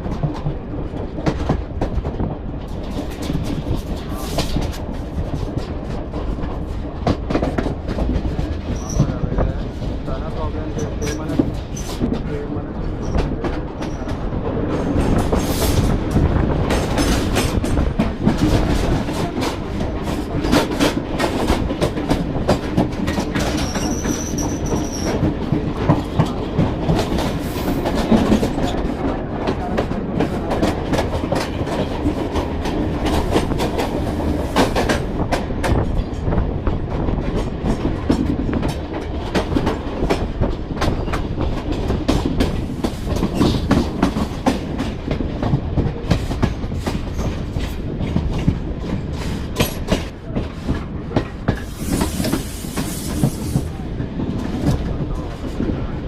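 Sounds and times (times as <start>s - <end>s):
train rumble: 0.0s - 56.0s
train wheels clattering on rails: 0.0s - 56.0s.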